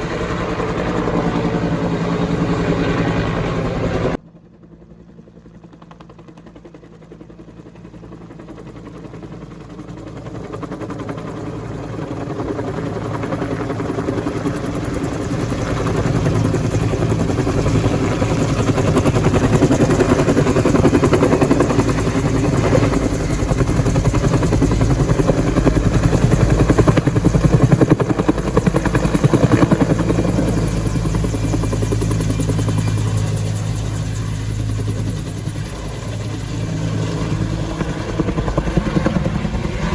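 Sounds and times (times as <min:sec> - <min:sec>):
helicopter rotor beating: 0:00.0 - 0:04.2, 0:05.1 - 0:39.9.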